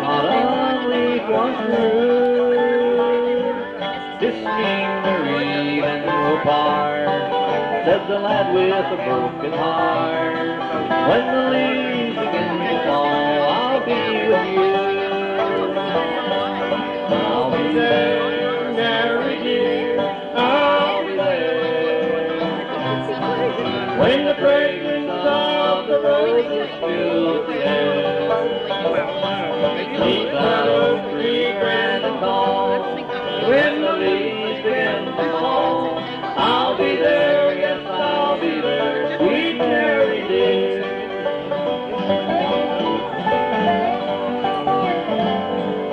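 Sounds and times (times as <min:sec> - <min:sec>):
bluegrass band playing: 0:00.0 - 0:45.9.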